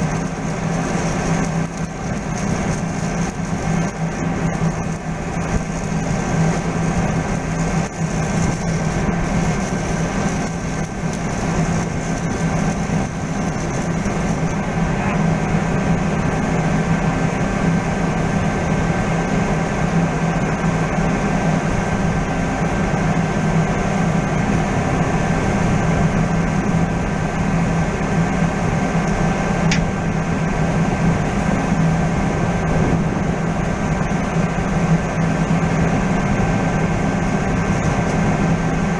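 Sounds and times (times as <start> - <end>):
machinery hum and rush: 0.0 - 38.9.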